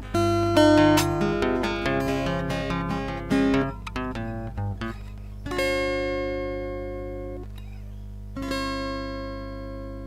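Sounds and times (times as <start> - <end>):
acoustic guitar chord strummed: 0.0 - 10.0.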